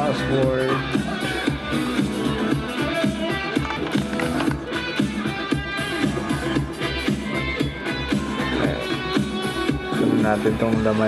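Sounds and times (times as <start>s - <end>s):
music with beat and guitar: 0.0s - 11.0s.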